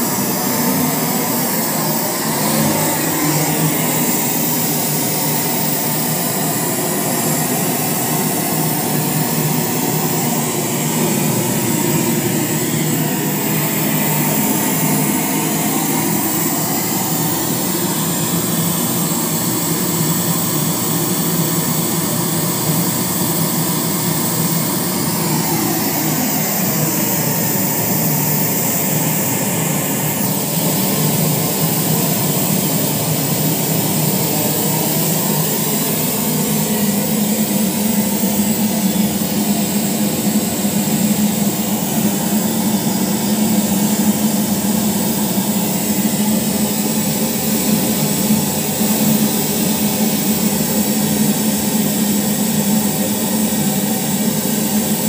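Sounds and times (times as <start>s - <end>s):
hissing test noise from speakers: 0.0s - 55.0s.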